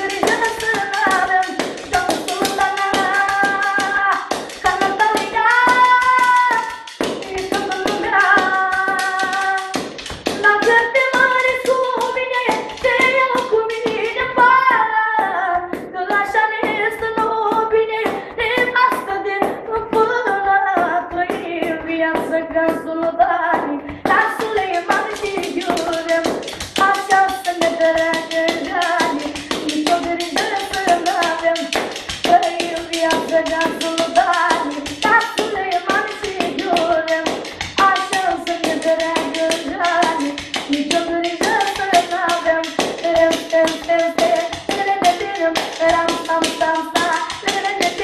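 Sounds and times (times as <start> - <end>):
boy singing: 0.0 - 48.0
fast rhythmic taps: 0.0 - 48.0.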